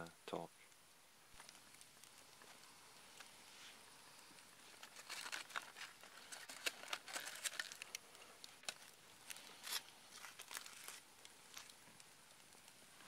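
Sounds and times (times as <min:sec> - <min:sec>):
sharp crackles: 0:00.6 - 0:13.0
aluminium foil crinkling: 0:01.3 - 0:13.0.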